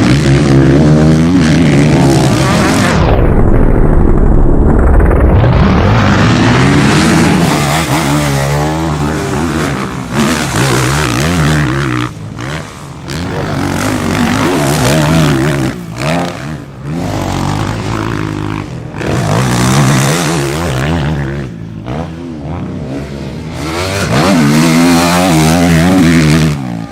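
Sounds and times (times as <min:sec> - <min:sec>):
motocross bike engines revving: 0:00.0 - 0:26.9.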